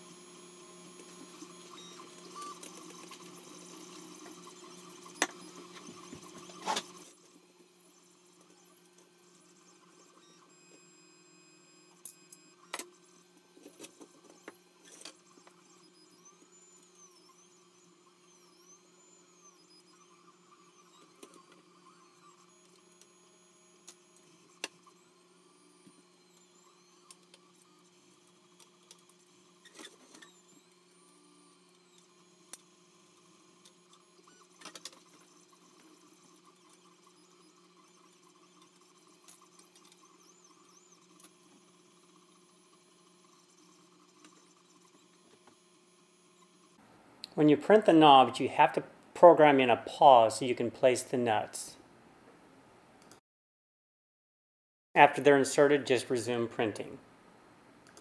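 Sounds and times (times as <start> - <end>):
stepper motors whining: 0.1 - 46.8.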